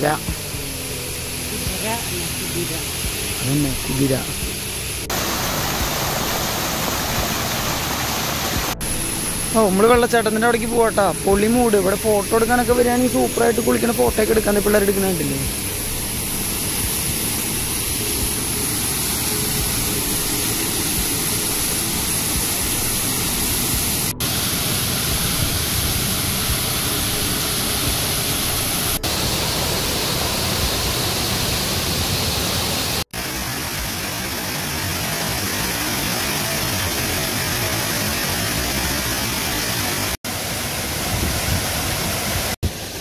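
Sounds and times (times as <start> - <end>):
waterfall rushing into pool: 0.0 - 43.0.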